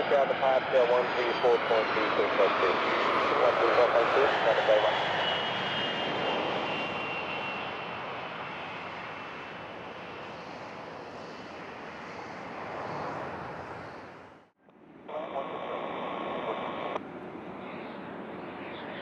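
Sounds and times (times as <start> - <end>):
high turbine whine: 0.0 - 19.0
jet engines passing by: 0.0 - 19.0.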